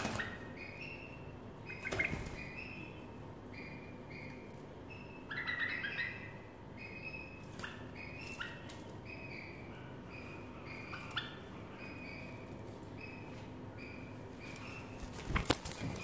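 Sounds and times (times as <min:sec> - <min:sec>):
bird chattering: 0:00.0 - 0:16.0
young birds chirping: 0:00.0 - 0:16.0.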